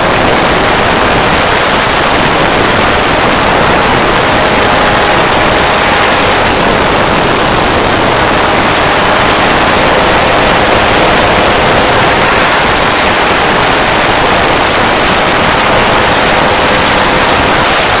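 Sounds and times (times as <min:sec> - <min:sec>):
engine drone: 0:00.0 - 0:18.0
wind rush on microphone: 0:00.0 - 0:18.0.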